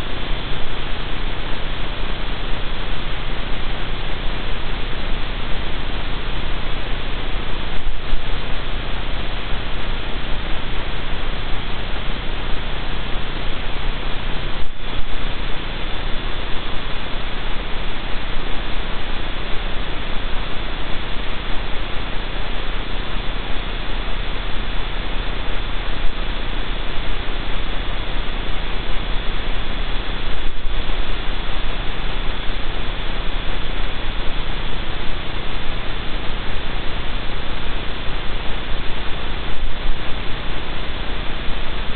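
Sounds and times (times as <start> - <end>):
electronic hiss and static: 0.0 - 41.9
low mains hum: 0.0 - 41.9
thin whine: 0.0 - 41.9.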